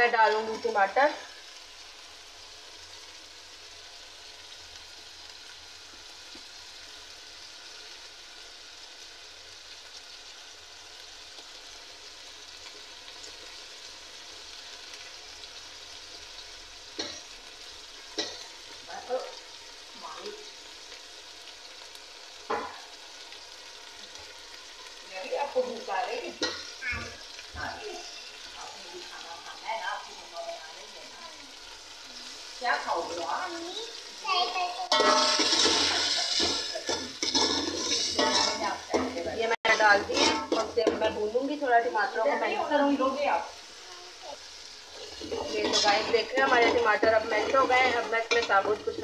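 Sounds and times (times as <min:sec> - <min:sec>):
paste sizzling in oil: 0:00.0 - 0:49.0.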